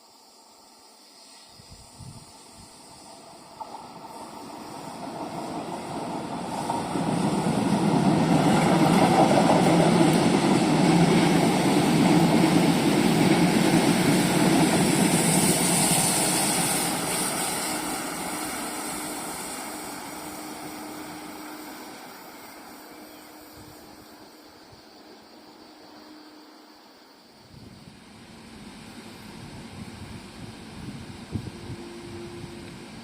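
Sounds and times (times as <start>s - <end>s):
train passing: 0.0s - 33.0s.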